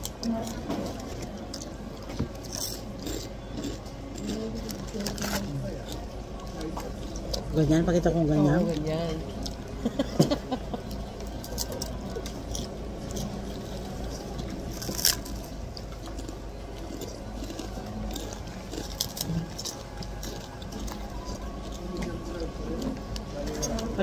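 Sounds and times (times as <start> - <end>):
crunchy food bites and chewing: 0.0 - 7.5, 11.3 - 24.0.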